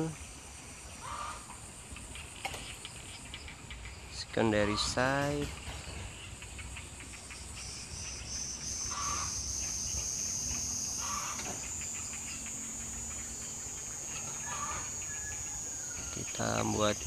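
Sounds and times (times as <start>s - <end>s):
insect chorus buzzing: 0.0s - 17.0s.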